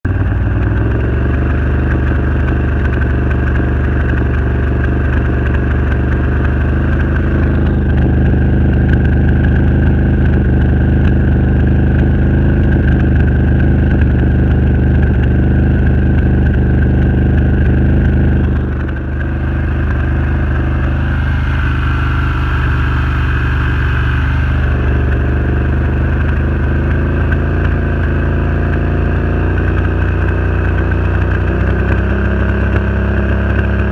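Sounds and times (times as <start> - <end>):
engine running with a misfire: 0.0 - 33.9.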